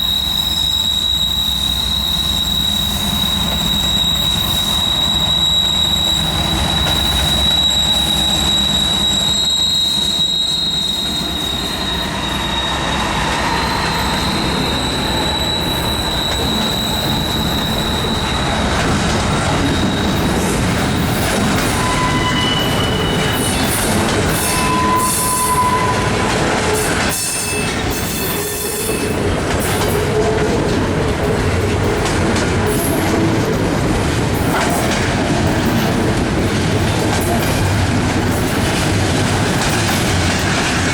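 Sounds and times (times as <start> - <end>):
train cars rumbling on rails: 0.0 - 40.9
train wheels squealing: 0.0 - 40.9.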